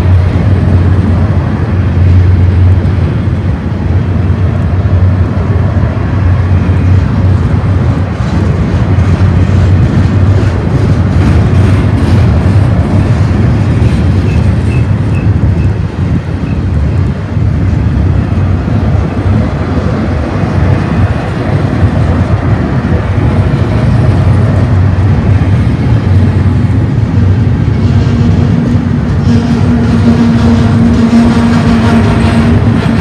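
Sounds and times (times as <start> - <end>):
train cars rumbling and rattling: 0.0 - 33.0.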